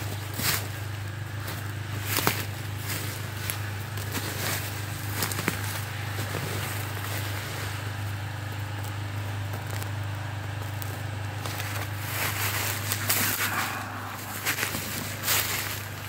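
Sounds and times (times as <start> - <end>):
diesel engine idling: 0.0 - 16.0
footsteps crunching on brush: 0.0 - 16.0.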